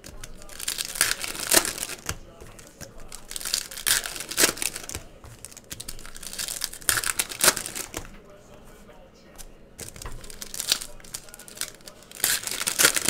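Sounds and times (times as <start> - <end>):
foil wrappers crinkling and tearing: 0.0 - 8.3, 9.4 - 13.0.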